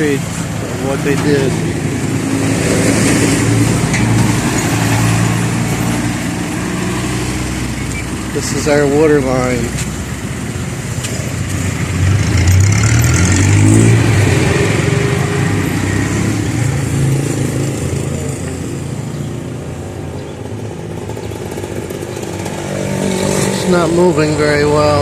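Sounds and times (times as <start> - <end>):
vehicle engine passing: 0.0 - 20.1, 20.7 - 25.0.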